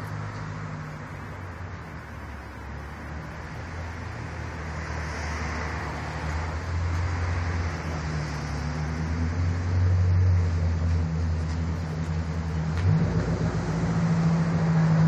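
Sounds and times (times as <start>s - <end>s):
car exhaust deep rumble: 0.0s - 15.0s.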